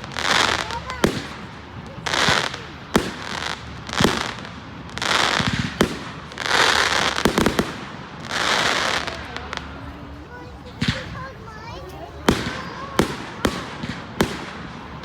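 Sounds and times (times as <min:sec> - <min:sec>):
firework bangs: 0:00.0 - 0:15.0
fireworks hissing and crackling: 0:00.0 - 0:15.0.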